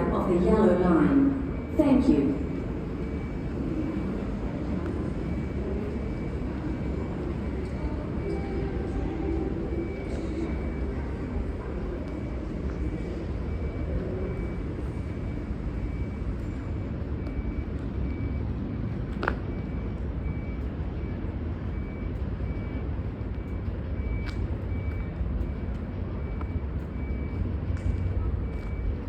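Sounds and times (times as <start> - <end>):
diesel railcar engine rumble: 0.0 - 29.0.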